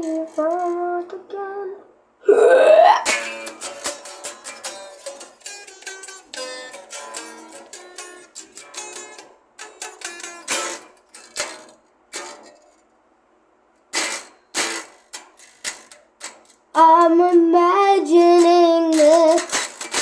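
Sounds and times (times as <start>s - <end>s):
plucked string instrument: 0.0s - 1.1s, 3.0s - 13.0s, 13.9s - 20.0s.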